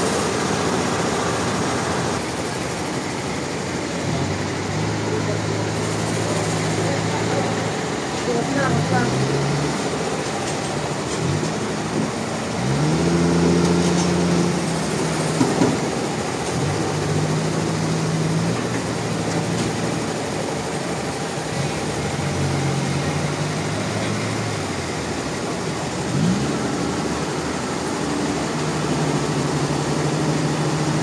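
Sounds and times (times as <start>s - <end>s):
engine running: 0.0s - 31.0s
steady machine noise: 0.0s - 31.0s.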